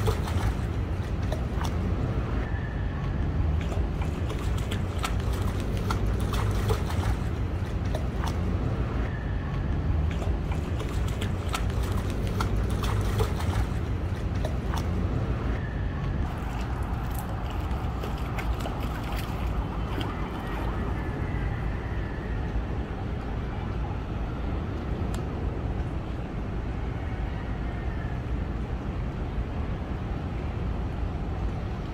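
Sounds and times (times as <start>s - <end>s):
low rumble of city traffic: 0.0s - 31.9s.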